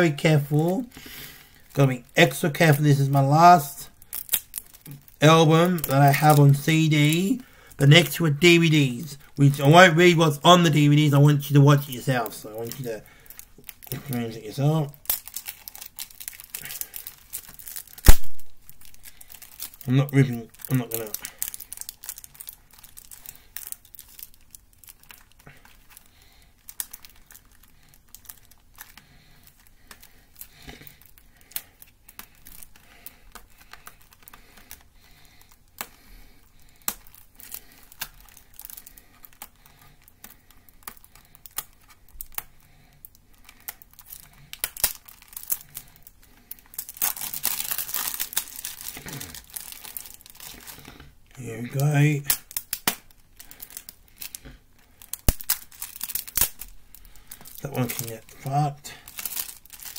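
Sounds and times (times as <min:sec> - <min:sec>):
plastic wrap crinkling and tearing: 0:00.0 - 0:59.9.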